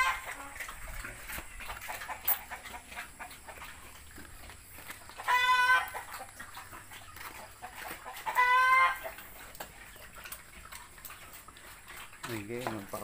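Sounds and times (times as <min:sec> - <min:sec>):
farm animal calls: 0:00.0 - 0:13.0.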